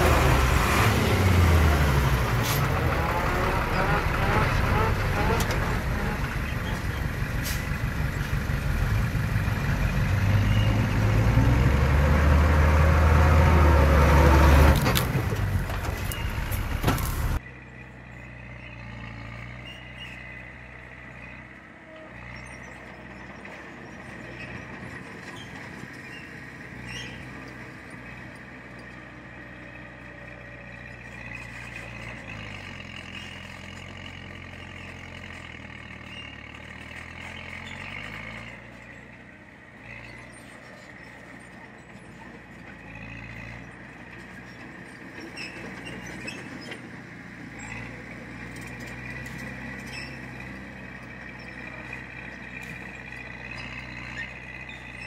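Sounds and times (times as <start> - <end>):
heavy diesel engine: 0.0 - 55.0.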